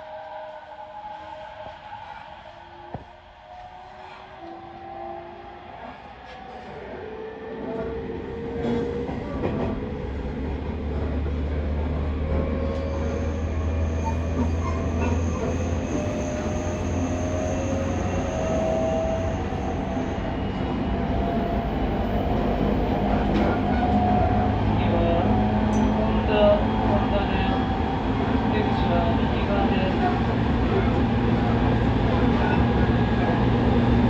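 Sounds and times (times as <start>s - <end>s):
rolling rail noise: 0.0s - 34.0s.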